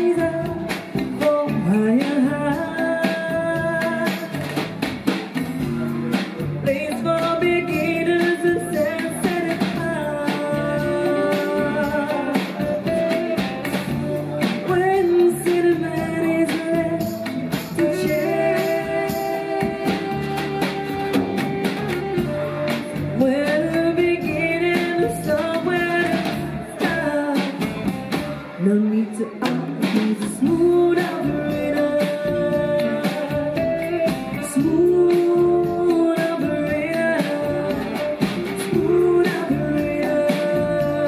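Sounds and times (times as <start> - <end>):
woman singing into a microphone: 0.0 - 5.0, 5.6 - 41.0
drum kit beat: 0.0 - 28.6, 29.4 - 41.0.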